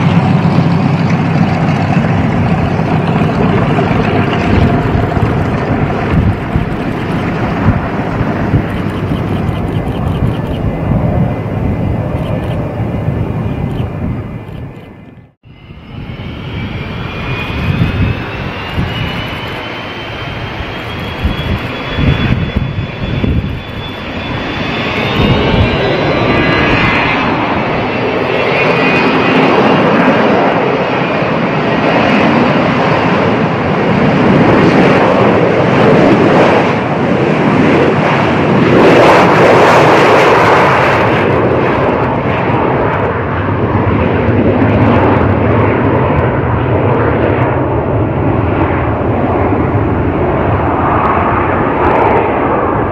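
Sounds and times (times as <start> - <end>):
jet engines spooling up: 0.0 - 43.4.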